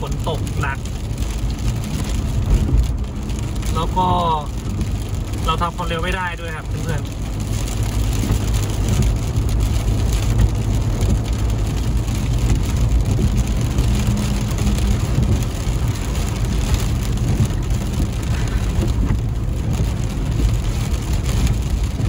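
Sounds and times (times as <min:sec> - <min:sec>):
engine and tyre hum: 0:00.0 - 0:22.0
heavy rain on car roof: 0:00.0 - 0:22.0.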